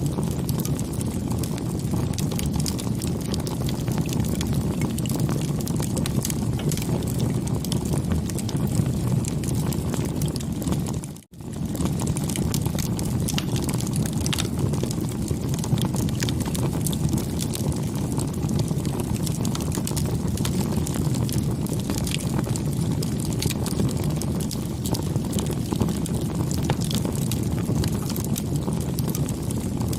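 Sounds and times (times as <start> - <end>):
campfire crackling and popping: 0.0 - 29.9
low rush of flame: 0.0 - 29.9.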